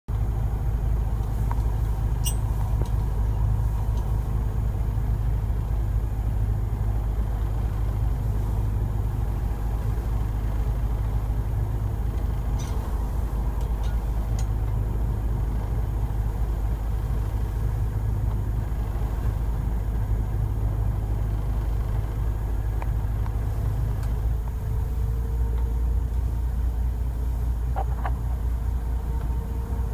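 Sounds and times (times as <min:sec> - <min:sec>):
boat engine droning: 0:00.1 - 0:29.9.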